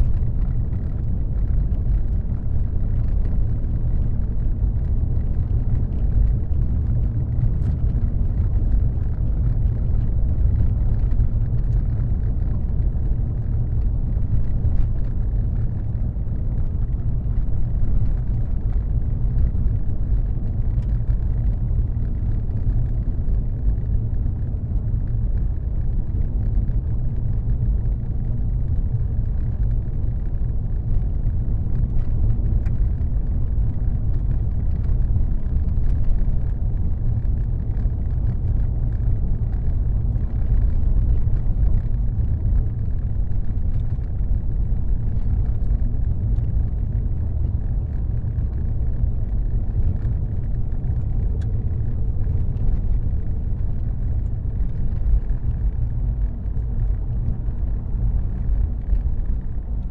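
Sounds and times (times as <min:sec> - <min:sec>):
car driving at speed: 0:00.0 - 0:59.9.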